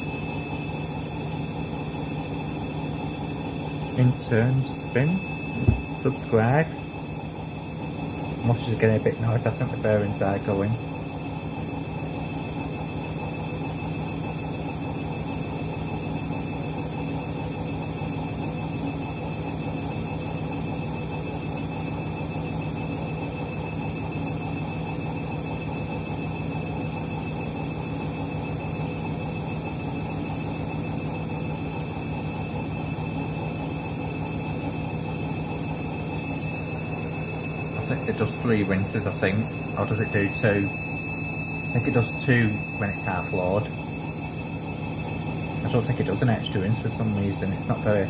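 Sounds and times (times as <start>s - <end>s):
washing machine spin rumble: 0.0s - 48.0s.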